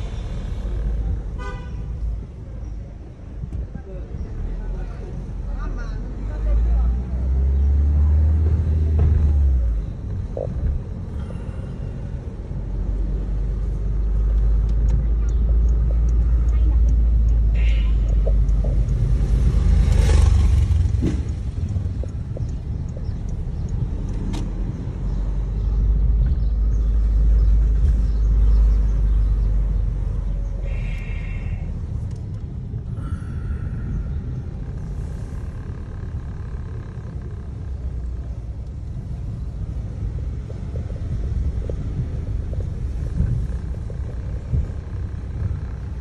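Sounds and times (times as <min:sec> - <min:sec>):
car engine and tyres rumbling: 0:00.0 - 0:46.0.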